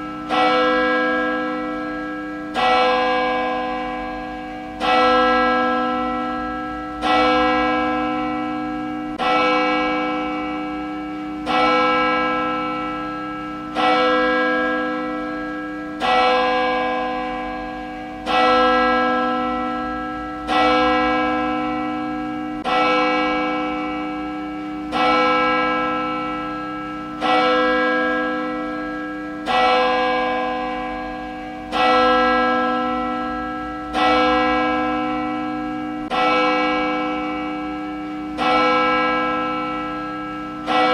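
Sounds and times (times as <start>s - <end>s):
church bell tolling: 0.0s - 40.9s.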